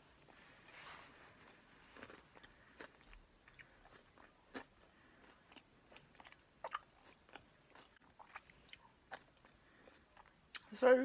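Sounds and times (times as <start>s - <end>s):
chewing crunches: 1.4s - 10.7s.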